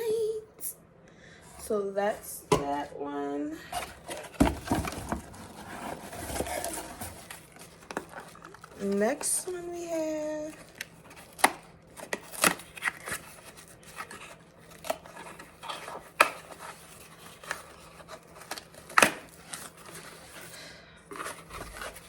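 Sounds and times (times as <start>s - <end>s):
packaging rustling and scraping: 1.5s - 22.0s.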